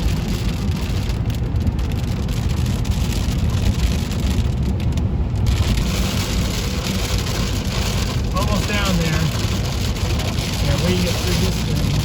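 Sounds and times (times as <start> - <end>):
rain patter on car: 0.0 - 12.0
road rumble inside car: 0.0 - 12.0.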